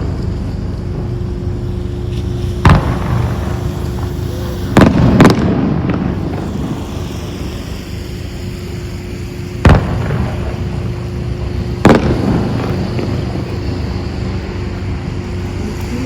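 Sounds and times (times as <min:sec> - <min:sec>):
fireworks bangs: 0:00.0 - 0:16.0
steady low hum: 0:00.0 - 0:16.0.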